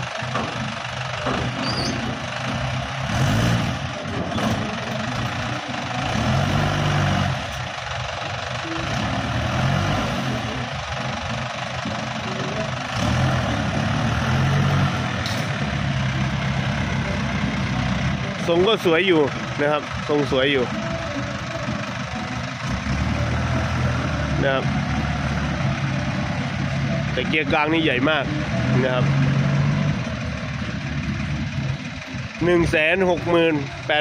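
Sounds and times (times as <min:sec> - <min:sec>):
diesel truck engine revving: 0:00.0 - 0:34.0.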